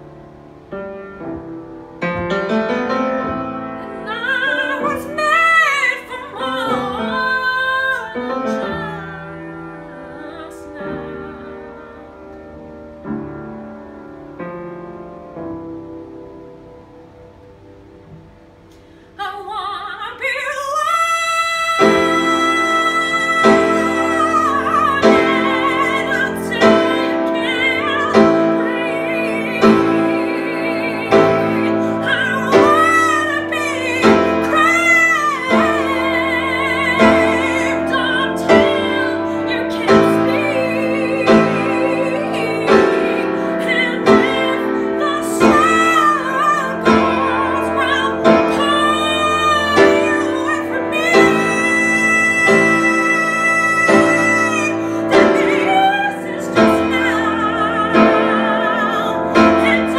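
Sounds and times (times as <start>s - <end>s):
piano chords: 0.0s - 59.9s
woman singing with vibrato: 2.1s - 14.0s, 19.0s - 59.9s.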